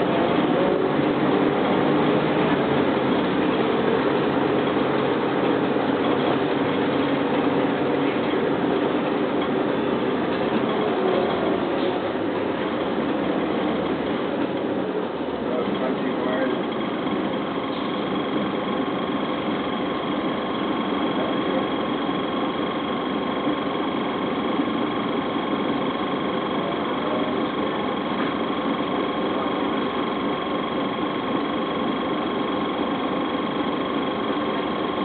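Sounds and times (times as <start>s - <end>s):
bus diesel engine droning: 0.0s - 35.0s
faint steady whine: 0.0s - 35.0s.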